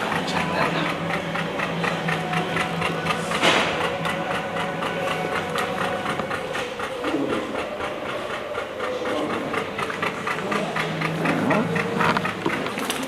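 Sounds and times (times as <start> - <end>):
engine idling with ticking: 0.0 - 13.0.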